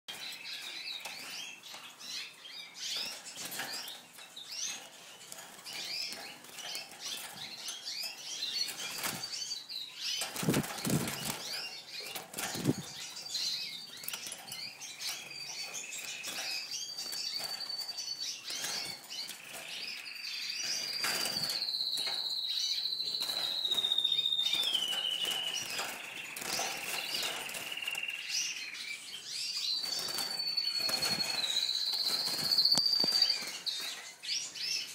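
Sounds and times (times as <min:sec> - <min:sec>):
birds fluttering wings in cage: 0:00.1 - 0:34.9
high bird chirps: 0:00.1 - 0:34.9.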